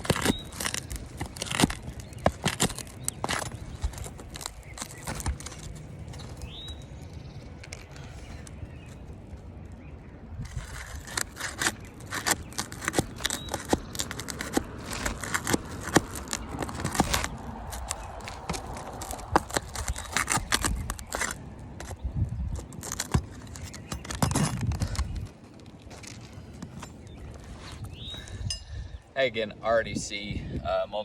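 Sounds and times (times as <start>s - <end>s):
roof shingles being pried up: 0.0s - 8.6s, 10.5s - 28.3s.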